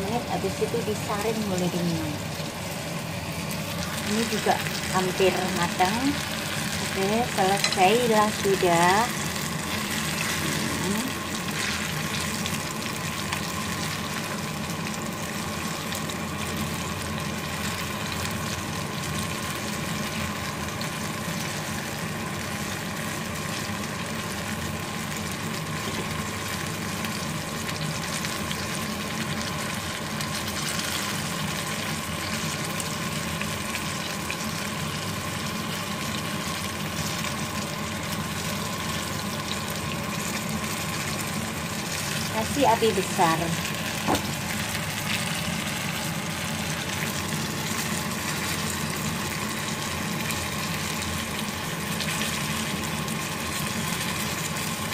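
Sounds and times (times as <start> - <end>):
fritters sizzling in hot oil: 0.0 - 54.9.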